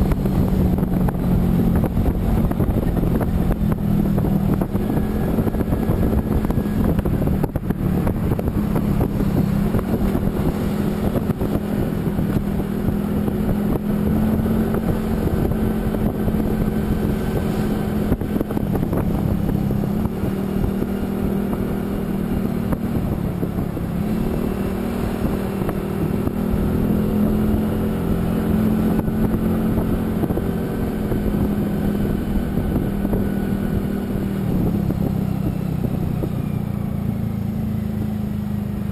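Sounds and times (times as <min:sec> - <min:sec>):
vehicle engine running: 0:00.0 - 0:38.9
wind noise on microphone: 0:00.0 - 0:38.9.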